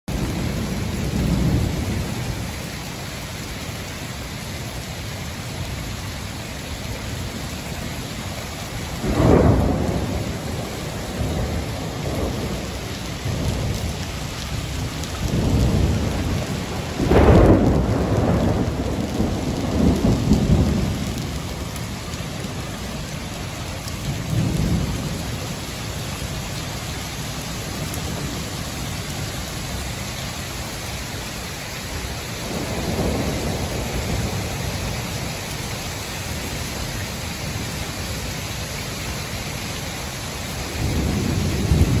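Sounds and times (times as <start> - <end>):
heavy rain on pavement: 0.0 - 42.0
thunder rumbling: 0.1 - 42.0.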